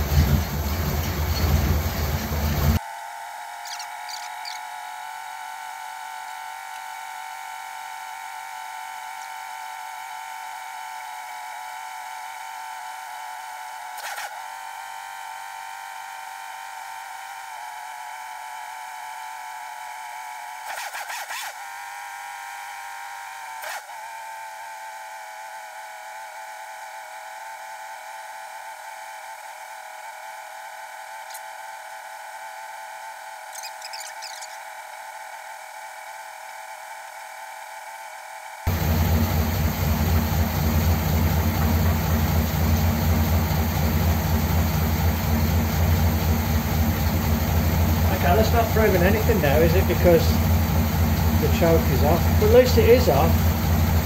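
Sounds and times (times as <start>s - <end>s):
heat gun fan whine: 0.0s - 54.0s.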